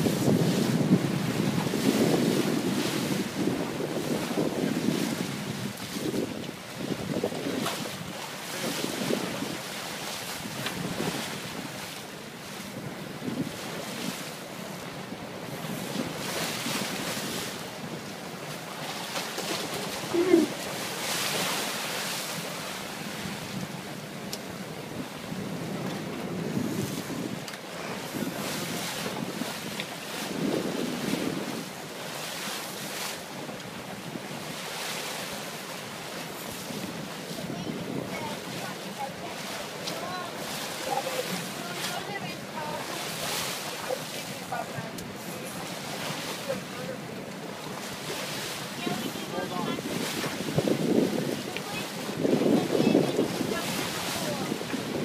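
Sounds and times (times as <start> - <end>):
wind buffeting microphone: 0.0 - 18.5, 19.6 - 35.3, 35.9 - 55.0
sea water churning and splashing: 0.0 - 55.0.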